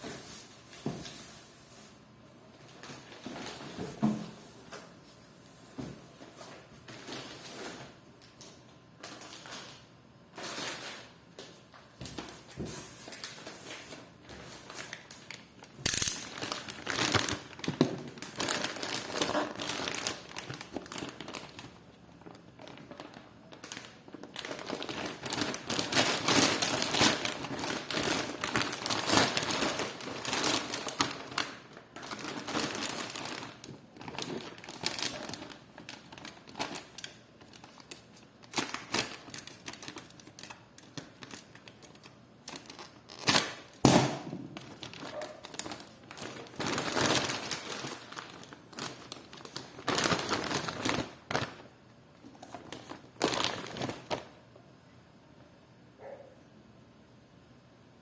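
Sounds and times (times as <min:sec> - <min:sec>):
plastic packaging crinkling: 0:06.4 - 0:54.4.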